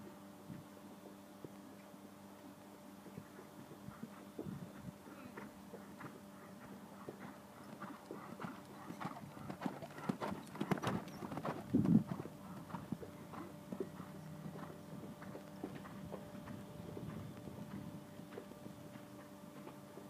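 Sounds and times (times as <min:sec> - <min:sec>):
hoofbeats on sand: 0:03.1 - 0:20.0.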